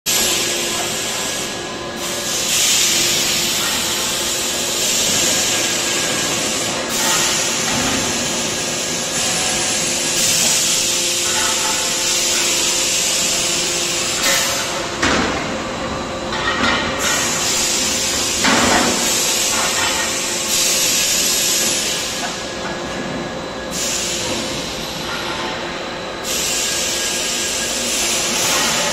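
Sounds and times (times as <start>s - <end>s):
loud machine hissing: 0.1s - 28.9s.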